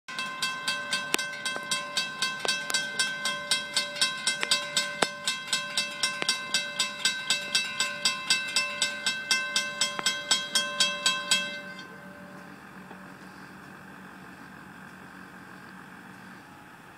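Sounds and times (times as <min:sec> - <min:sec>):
railroad crossing bell ringing: 0:00.1 - 0:15.2.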